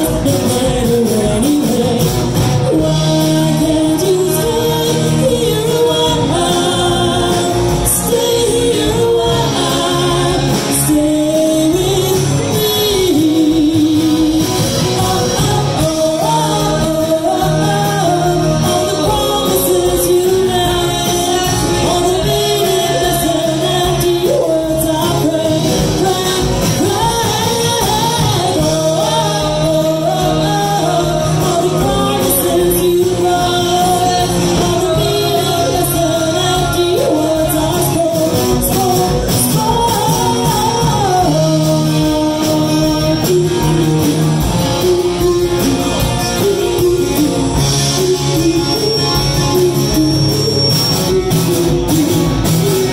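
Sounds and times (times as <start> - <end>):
drums: 0.0 - 52.9
electric guitar: 0.0 - 52.9
woman singing into microphone: 0.0 - 52.9.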